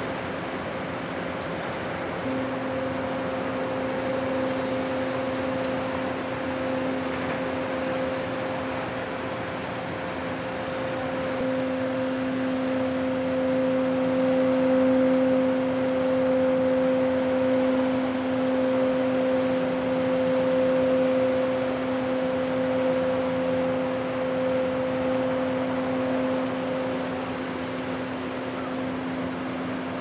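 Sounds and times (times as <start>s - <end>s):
ship engines humming: 0.0s - 30.0s.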